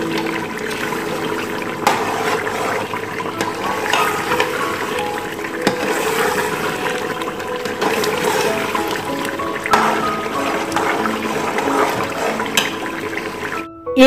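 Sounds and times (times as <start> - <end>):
metal ladle scraping pot: 0.0 - 13.6
curry sizzling in a pot: 0.0 - 13.7
ladle knocking against pot: 1.8 - 13.4.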